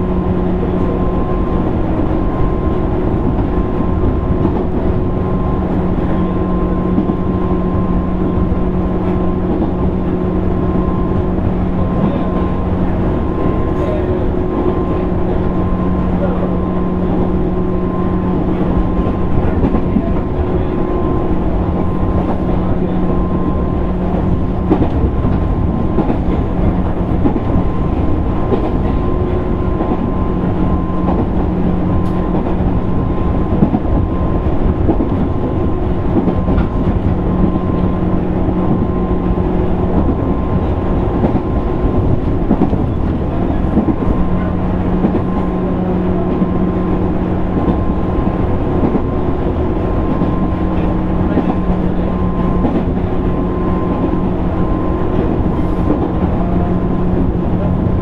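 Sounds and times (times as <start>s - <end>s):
train motor hum: 0.0s - 58.0s
wheels rumbling on rail: 0.0s - 58.0s.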